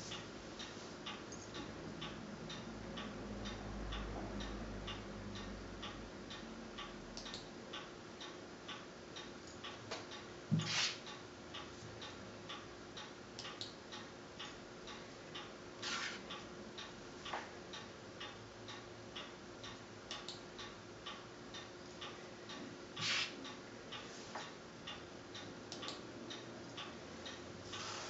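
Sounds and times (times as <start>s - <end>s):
clock ticking: 0.0s - 10.4s, 11.0s - 15.6s, 16.2s - 27.8s.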